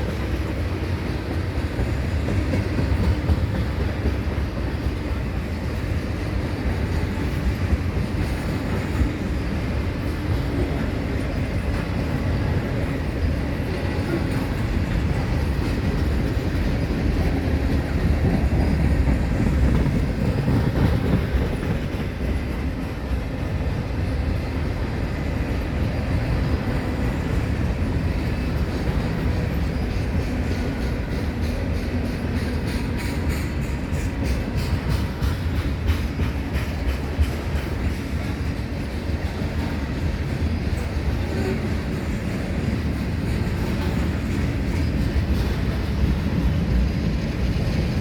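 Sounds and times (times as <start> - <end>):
train wheels rumbling on rail: 0.0 - 48.0
wheels clicking over rail joints: 0.0 - 48.0.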